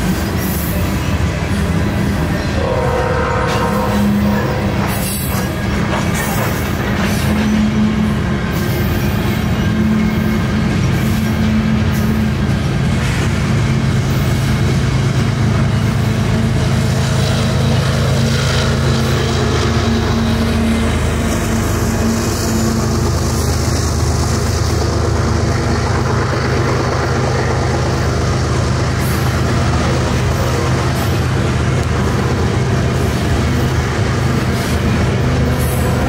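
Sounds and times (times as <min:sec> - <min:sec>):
diesel locomotive hum: 0:00.0 - 0:36.0
train wheels rumbling on rail: 0:00.0 - 0:36.0.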